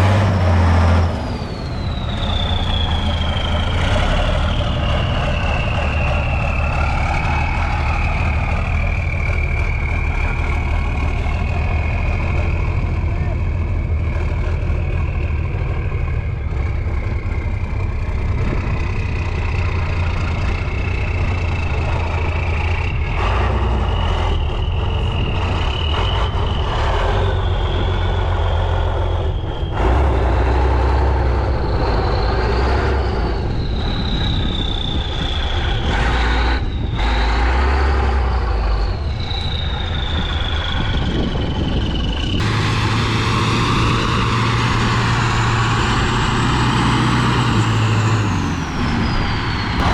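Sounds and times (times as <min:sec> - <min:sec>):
truck engine under load: 0:00.0 - 0:49.9.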